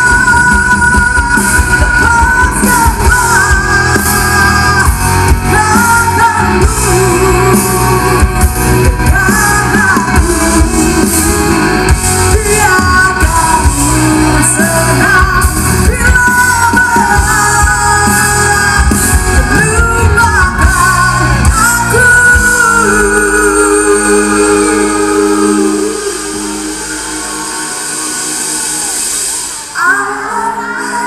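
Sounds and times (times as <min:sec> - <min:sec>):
person singing: 0:00.0 - 0:31.0
rock band playing live: 0:00.0 - 0:31.0.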